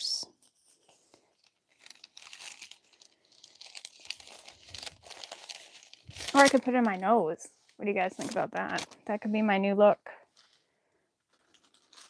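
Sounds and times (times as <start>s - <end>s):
paper packaging crinkling: 0.4s - 7.3s, 8.0s - 9.2s, 10.3s - 12.0s.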